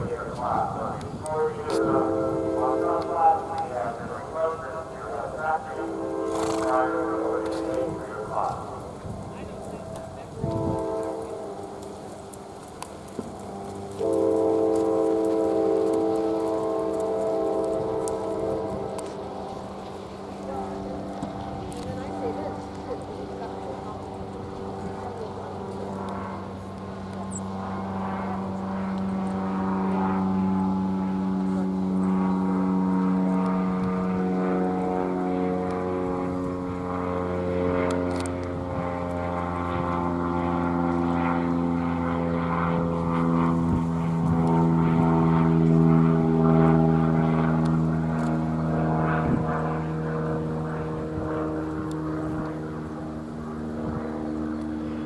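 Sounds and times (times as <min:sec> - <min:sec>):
steady engine drone: 0:00.0 - 0:55.0.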